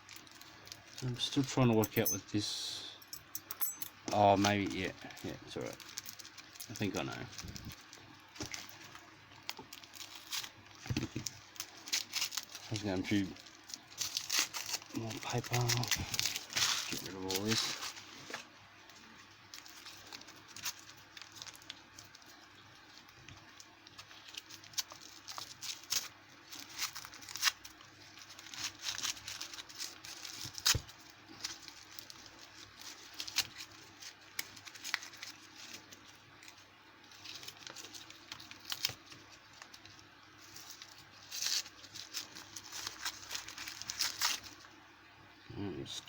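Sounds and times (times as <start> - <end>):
packing paper crumpling and tearing: 0.0 - 2.1, 4.2 - 44.8.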